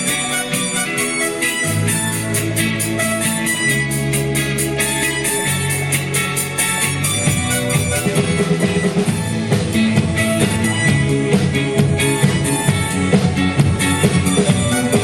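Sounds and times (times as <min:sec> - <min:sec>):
band music with guitar and drums: 0:00.0 - 0:15.0.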